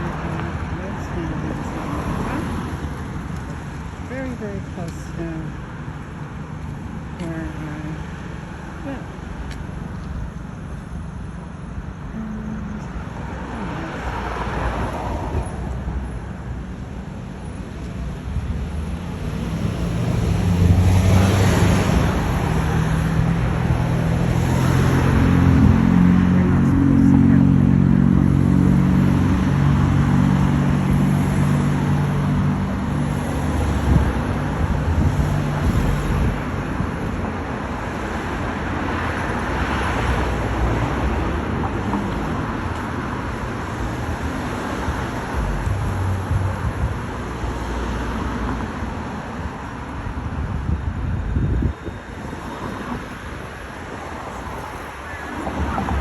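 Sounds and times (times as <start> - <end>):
road noise: 0.0 - 56.0
vehicle engine humming: 0.0 - 56.0.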